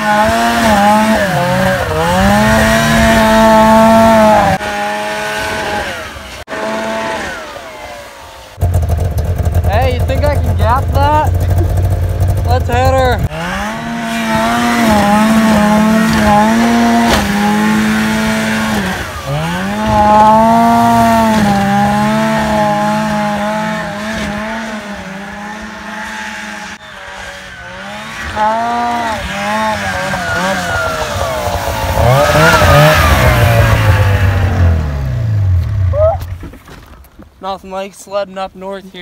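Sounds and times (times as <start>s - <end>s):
snowmobile engine revving: 0.0s - 36.4s.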